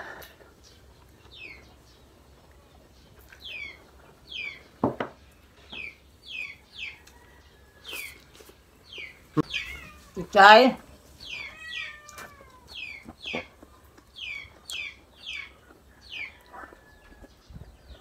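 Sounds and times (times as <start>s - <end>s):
bird chirping: 0.6s - 10.6s, 11.2s - 18.0s.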